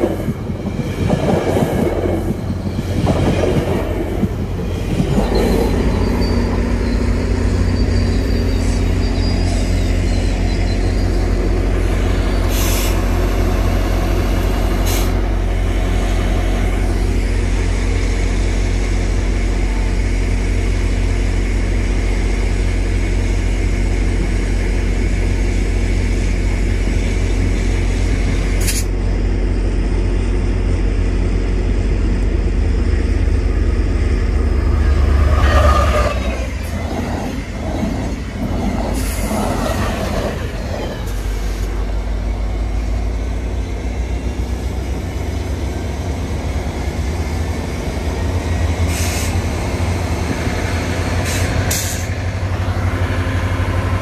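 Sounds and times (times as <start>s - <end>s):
diesel locomotive engine droning: 0.0s - 54.0s
passenger train passing: 0.0s - 54.0s.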